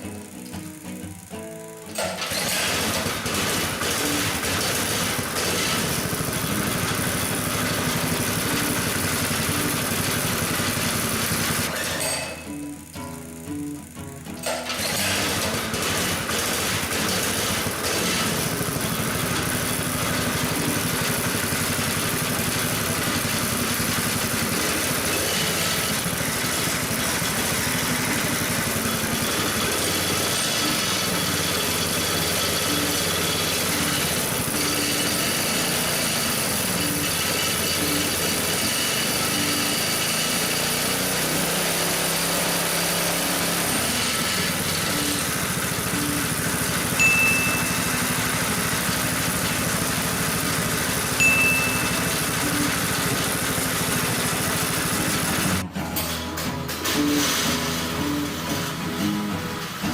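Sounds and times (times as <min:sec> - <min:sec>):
motorized bike engine running: 0:00.0 - 0:55.8, 0:56.7 - 0:59.9.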